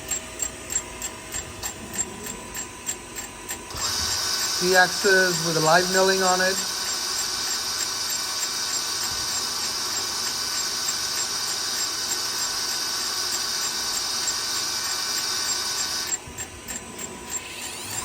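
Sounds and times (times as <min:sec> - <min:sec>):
machine whining and hissing: 0:00.0 - 0:18.0.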